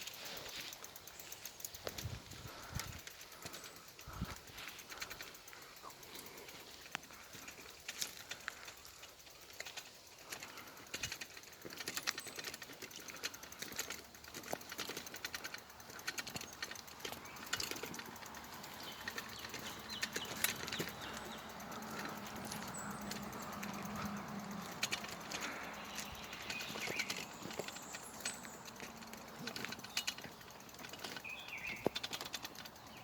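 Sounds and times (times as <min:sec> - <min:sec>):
footsteps crunching on trail: 0:00.0 - 0:32.1.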